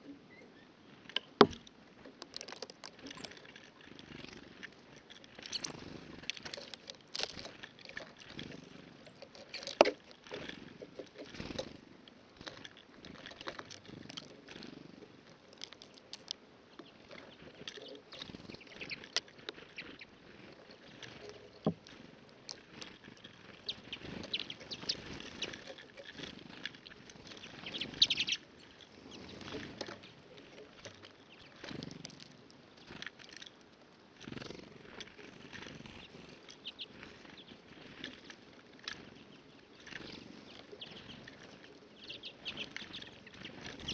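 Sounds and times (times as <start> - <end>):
birds tapping on plastic feeder: 1.1 - 4.7, 5.3 - 11.8, 15.5 - 32.2, 34.3 - 43.9.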